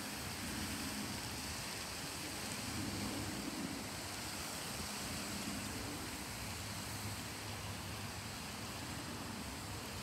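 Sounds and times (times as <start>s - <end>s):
even hiss: 0.0s - 10.0s.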